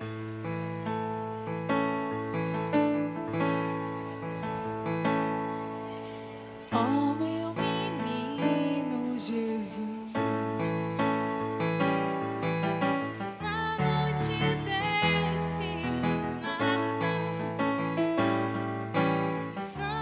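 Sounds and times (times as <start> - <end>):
keyboard piano-like chords: 0.0 - 20.0.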